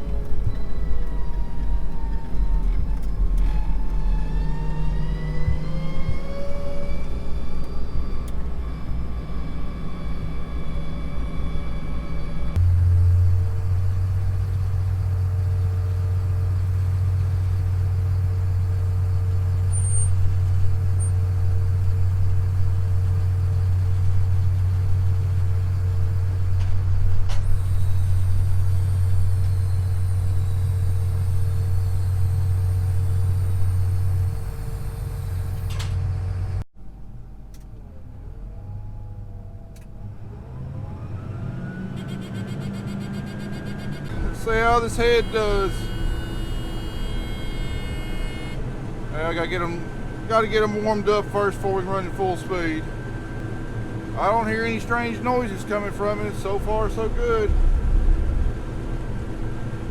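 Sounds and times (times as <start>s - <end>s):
machine with rising whines: 0.0s - 36.6s, 37.8s - 59.9s
heavy engine drone with whine: 0.0s - 59.9s.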